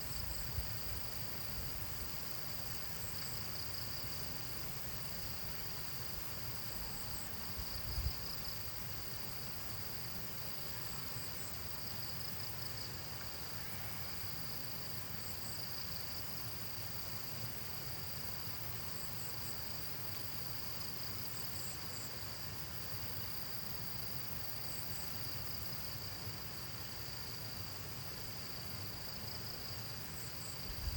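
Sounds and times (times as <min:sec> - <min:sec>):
insects chirping: 0:00.0 - 0:30.9.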